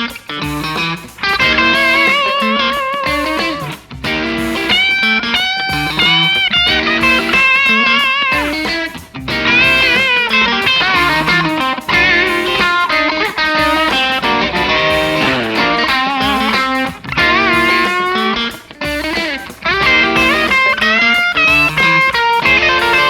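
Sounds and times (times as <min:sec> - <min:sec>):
electric guitar lead phrases: 0:00.0 - 0:23.0.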